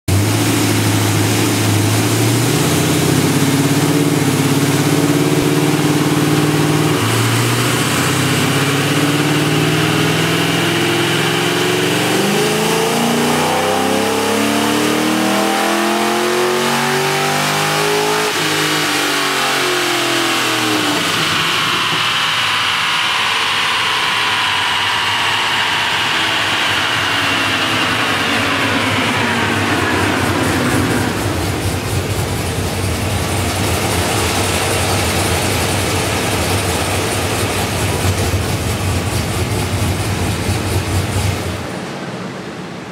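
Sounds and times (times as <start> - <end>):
car engine revving at full throttle: 0.0 - 42.9
falling whine: 0.1 - 42.9.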